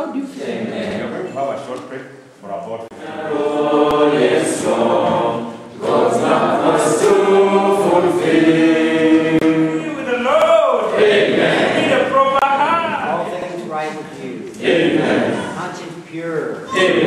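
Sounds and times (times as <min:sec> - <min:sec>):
congregation singing a hymn: 0:00.0 - 0:01.3, 0:02.9 - 0:13.3, 0:14.1 - 0:15.7, 0:16.6 - 0:17.0.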